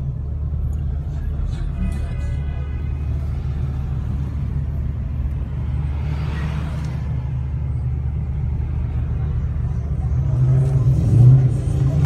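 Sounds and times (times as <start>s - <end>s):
car engine idling: 0.0s - 10.4s
passing traffic rush: 0.0s - 12.0s.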